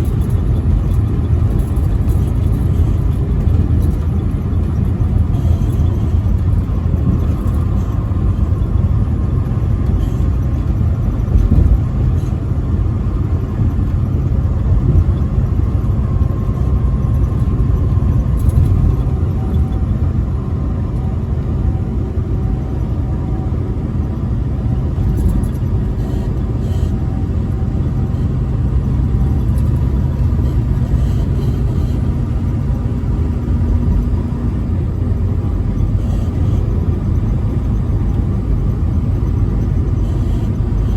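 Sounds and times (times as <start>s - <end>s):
faint steady whine: 0.0s - 40.9s
truck engine and road rumble: 0.0s - 40.9s.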